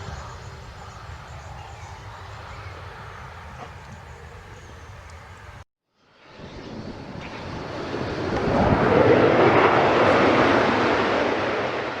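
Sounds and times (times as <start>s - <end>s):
jet aircraft passing: 0.0s - 12.0s.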